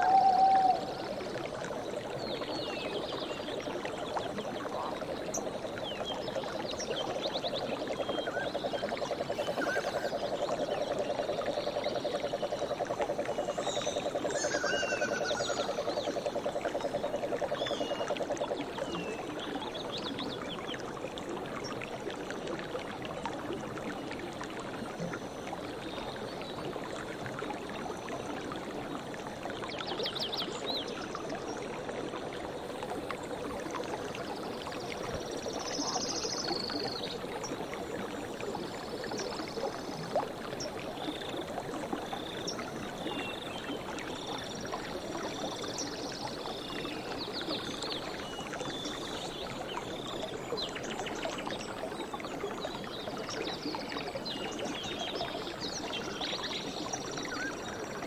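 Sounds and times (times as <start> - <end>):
stream of water running: 0.0 - 58.0.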